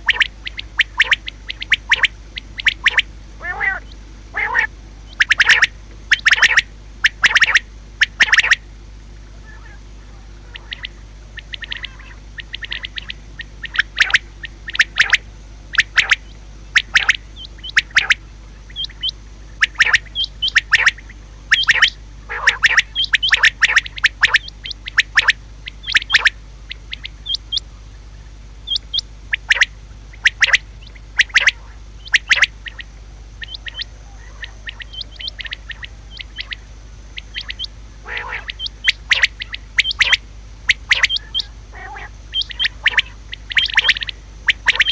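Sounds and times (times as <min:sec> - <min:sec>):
quail calling: 0:00.0 - 0:44.9.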